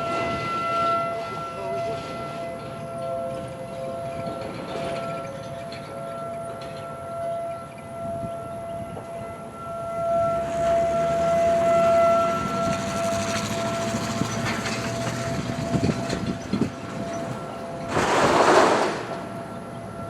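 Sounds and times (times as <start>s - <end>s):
distant warning siren: 0.0s - 20.0s.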